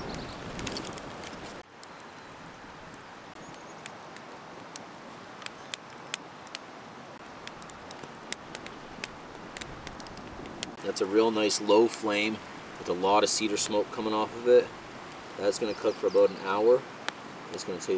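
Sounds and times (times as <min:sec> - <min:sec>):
campfire crackling and popping: 0:00.0 - 0:17.9.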